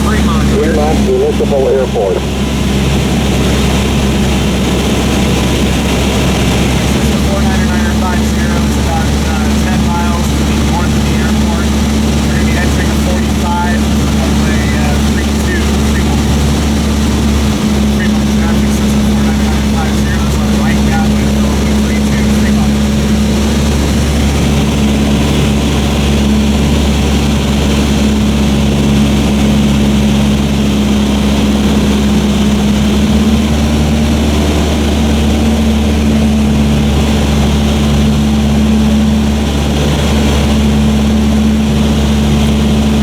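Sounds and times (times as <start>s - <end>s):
airplane engine droning in cabin: 0.0s - 43.0s.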